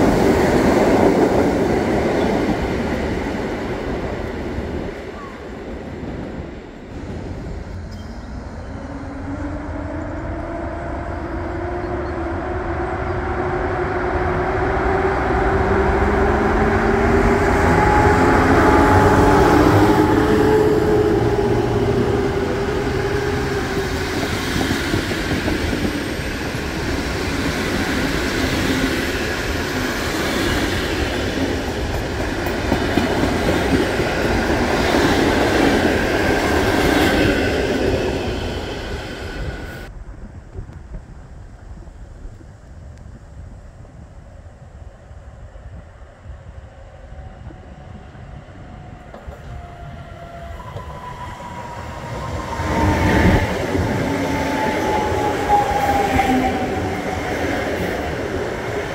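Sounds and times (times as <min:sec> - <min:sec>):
train coaches rumbling past: 0:00.0 - 0:40.4, 0:44.7 - 0:58.9
electric locomotive whine: 0:00.0 - 0:58.9.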